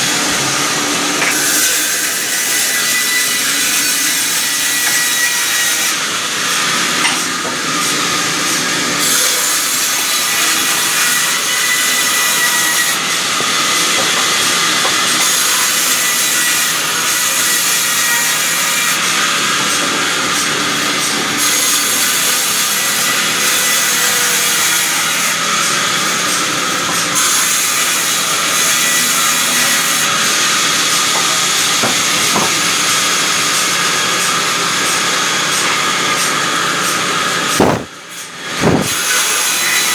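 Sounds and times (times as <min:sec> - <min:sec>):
saw blade whining through wood: 0:00.0 - 0:39.9.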